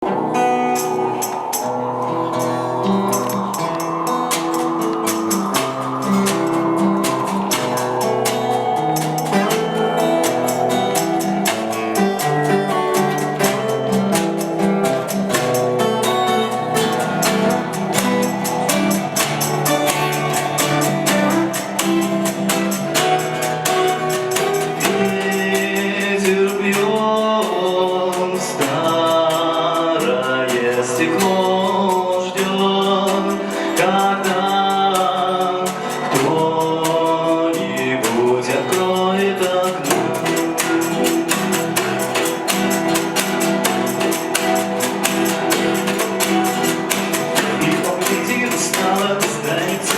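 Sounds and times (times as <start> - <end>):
hand percussion: 0.0 - 49.9
lead guitar: 0.0 - 49.9
strummed rhythm guitar: 0.0 - 49.9
man singing: 3.2 - 49.9.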